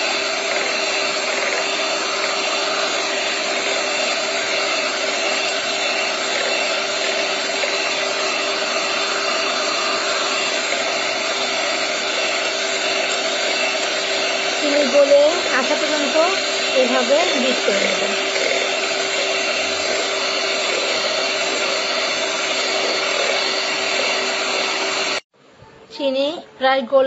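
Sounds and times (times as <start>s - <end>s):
electric hand mixer whisking: 0.0s - 25.3s.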